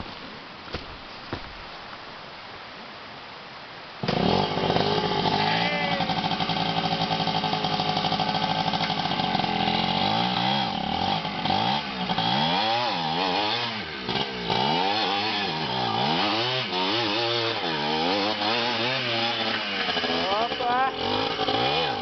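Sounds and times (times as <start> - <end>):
motorcycle engine revving: 4.0 - 22.0.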